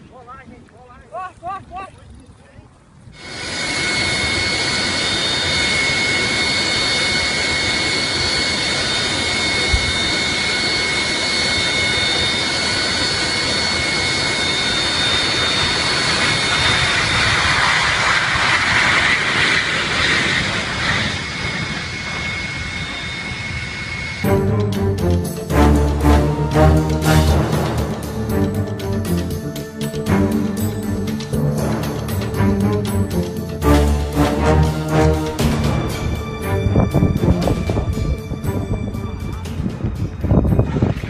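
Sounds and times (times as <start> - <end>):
broad rushing noise: 3.2 - 41.0
jet engines whining: 3.2 - 41.0.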